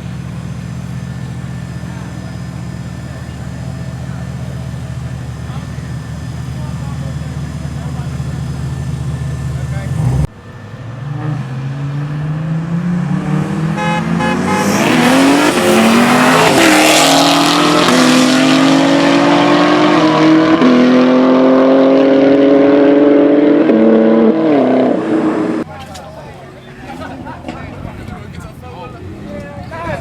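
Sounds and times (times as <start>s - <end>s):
car engine accelerating hard: 0.0s - 25.7s.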